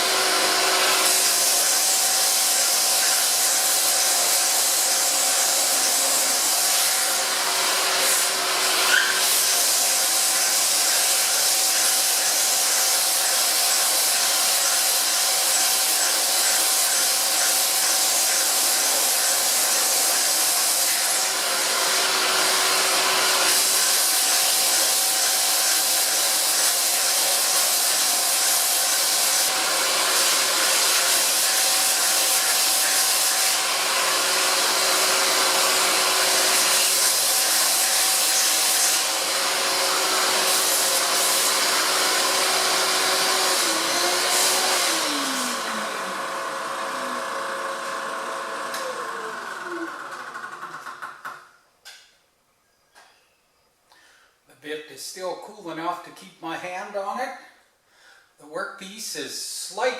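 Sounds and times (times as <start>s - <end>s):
shop vac running: 0.0s - 51.5s.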